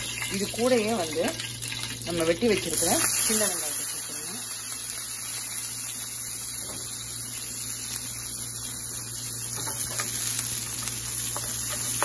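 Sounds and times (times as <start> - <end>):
shallots sizzling in hot oil: 0.0 - 12.0.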